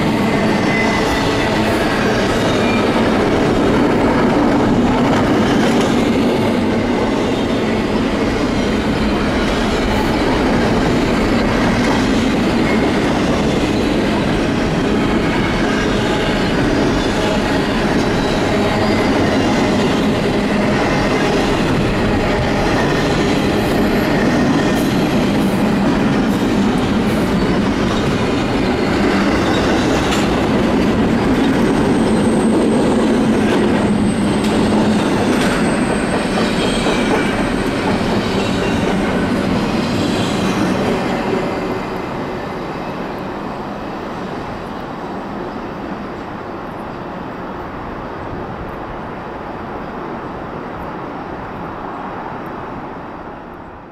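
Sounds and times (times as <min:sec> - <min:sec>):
clickety-clack over rail joints: 0:00.0 - 0:49.1
train wheels rumbling on rail: 0:00.0 - 0:53.9.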